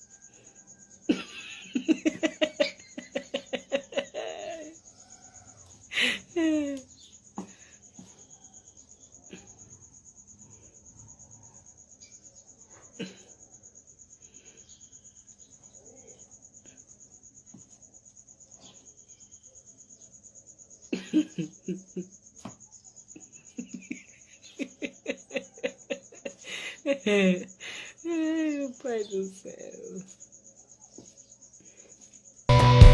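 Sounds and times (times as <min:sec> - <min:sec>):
crickets chirring: 0:00.0 - 0:32.5.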